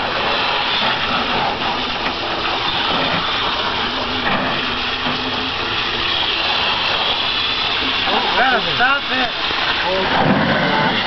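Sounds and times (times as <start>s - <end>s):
hose water splashing into pool: 0.0s - 11.0s.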